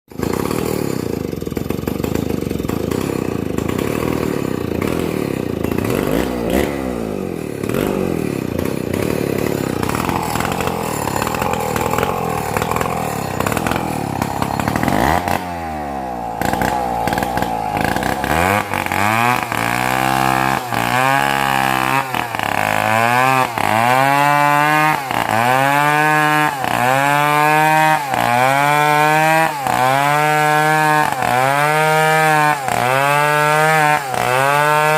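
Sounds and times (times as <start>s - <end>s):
chainsaw engine revving: 0.1s - 34.9s.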